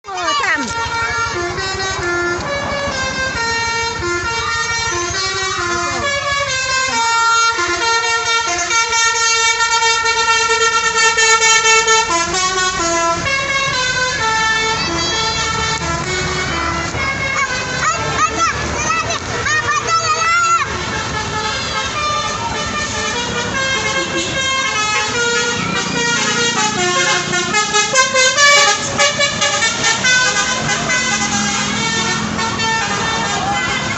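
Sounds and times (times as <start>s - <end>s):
musical bus air horn: 0.1s - 33.9s.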